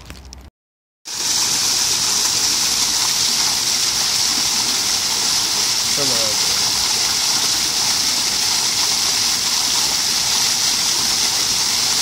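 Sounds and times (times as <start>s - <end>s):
waterfall rushing into pool: 1.1s - 12.0s.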